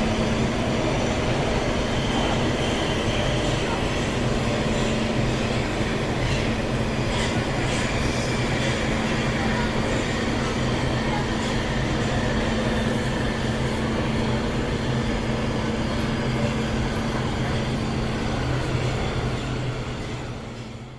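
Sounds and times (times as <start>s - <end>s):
train car rumbling roar: 0.0s - 20.9s.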